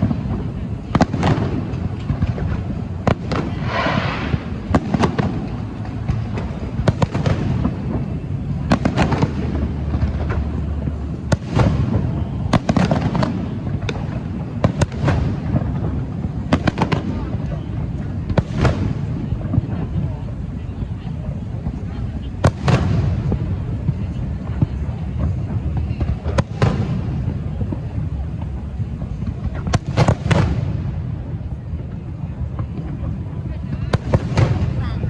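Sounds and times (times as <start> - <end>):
continuous low rumble: 0.0 - 35.0
fireworks bangs: 0.0 - 35.0.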